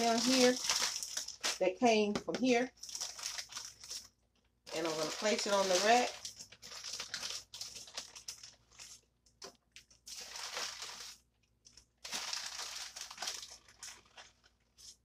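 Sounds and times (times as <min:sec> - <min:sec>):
plastic bag crinkling: 0:00.0 - 0:04.1, 0:04.7 - 0:09.1, 0:09.7 - 0:15.0.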